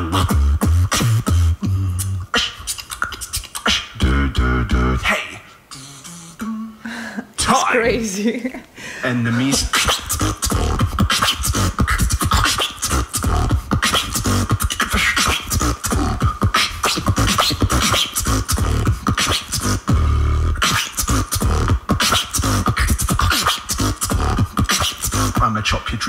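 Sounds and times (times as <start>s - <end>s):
beatboxing: 0.0s - 6.8s, 9.3s - 26.0s.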